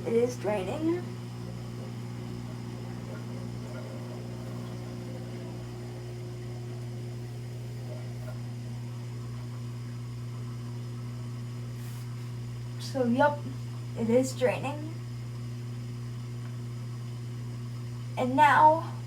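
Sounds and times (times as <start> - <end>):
washing machine drain pump hum: 0.0 - 19.0.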